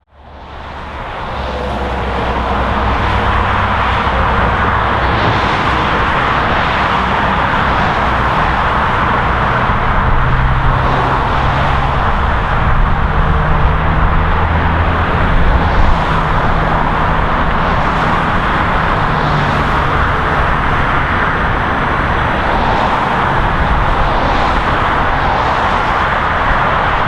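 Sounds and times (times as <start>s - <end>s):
highway traffic roar: 0.0s - 27.0s
low engine hum: 0.0s - 27.0s.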